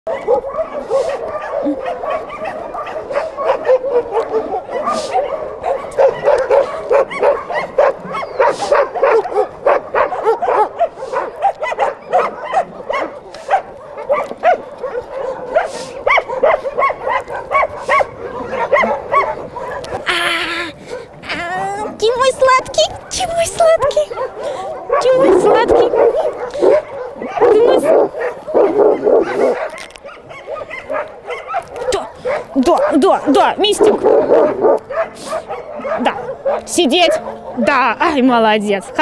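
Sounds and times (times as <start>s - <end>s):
dogs barking and yelping: 0.1s - 39.0s.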